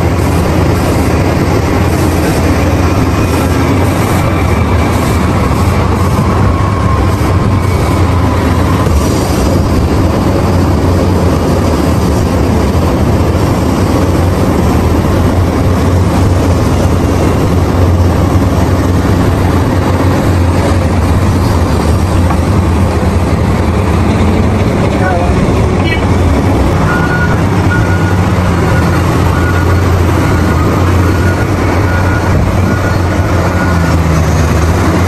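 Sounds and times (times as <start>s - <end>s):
excavator engine and hydraulics droning: 0.0s - 35.0s.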